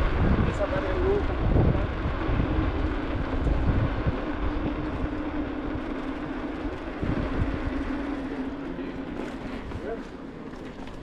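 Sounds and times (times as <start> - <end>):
wind buffeting on microphone: 0.0 - 10.0
bike tyres rolling on asphalt: 0.0 - 11.0.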